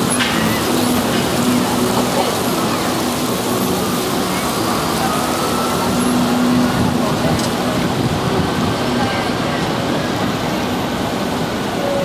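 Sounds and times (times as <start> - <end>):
murmur of passers-by: 0.0 - 12.0
street traffic noise: 0.0 - 12.0.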